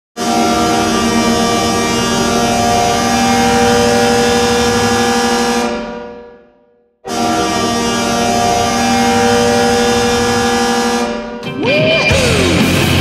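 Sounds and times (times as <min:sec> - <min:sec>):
goal horn blast: 0:00.2 - 0:12.8.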